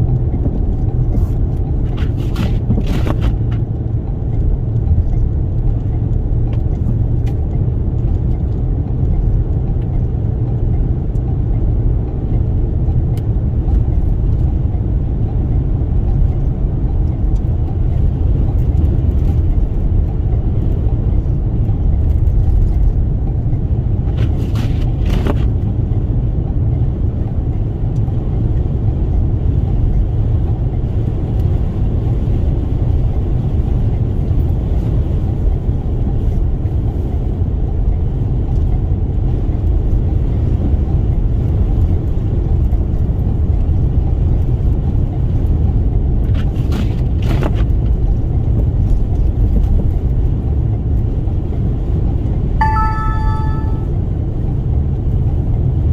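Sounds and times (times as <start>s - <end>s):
road and wind noise in car cabin: 0.0s - 55.9s.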